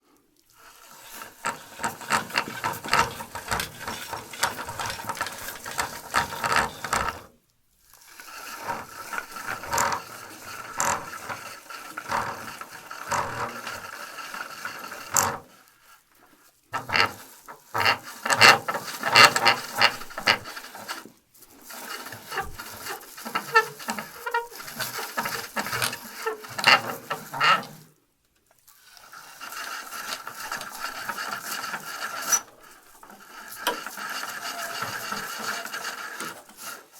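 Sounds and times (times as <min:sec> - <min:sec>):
plastic pulley wheel rattling and clicking: 0:00.8 - 0:07.3, 0:08.0 - 0:15.6, 0:16.8 - 0:27.8, 0:29.0 - 0:36.9.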